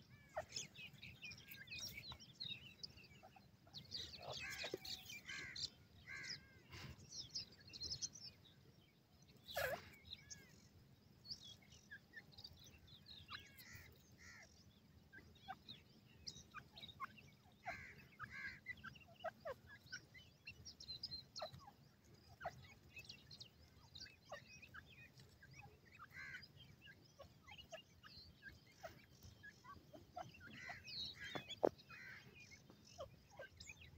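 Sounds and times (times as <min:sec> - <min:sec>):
young birds chirping and peeping: 0:00.0 - 0:33.9.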